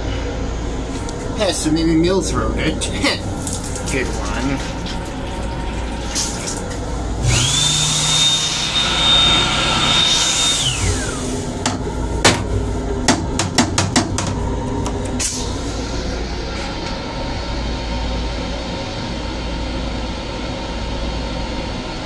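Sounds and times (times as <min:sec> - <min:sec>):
hand dryer whine: 0:02.6 - 0:20.6.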